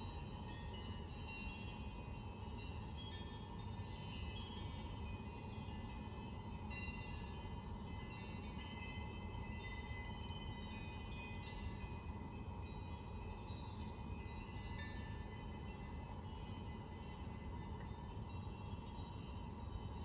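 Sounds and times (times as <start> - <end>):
soft chime-like tones: 0.0 - 20.0.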